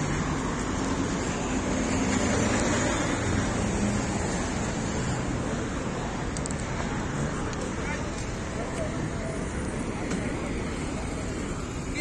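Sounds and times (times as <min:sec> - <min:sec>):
car engines humming: 0:00.0 - 0:12.0
street traffic noise: 0:00.0 - 0:12.0.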